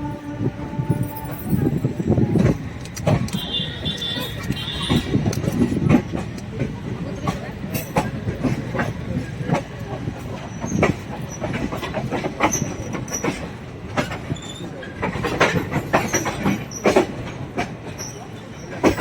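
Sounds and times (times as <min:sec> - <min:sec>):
train wheels clattering over joints: 0:01.0 - 0:19.0.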